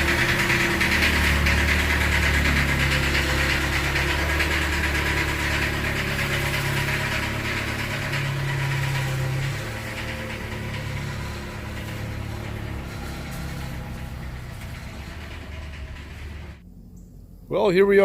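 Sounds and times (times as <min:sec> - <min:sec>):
engine idling with knocking tick: 0:00.0 - 0:16.6.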